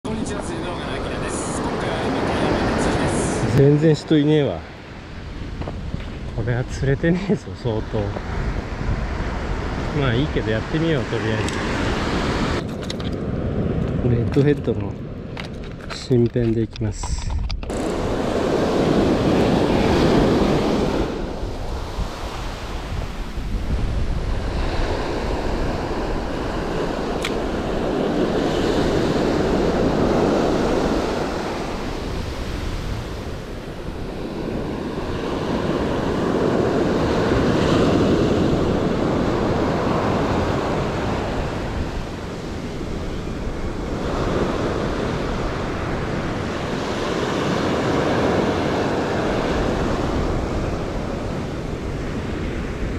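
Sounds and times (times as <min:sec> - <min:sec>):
ocean surf breaking: 0:00.1 - 0:15.2, 0:17.7 - 0:52.9
wind rumbling on microphone: 0:00.1 - 0:52.9.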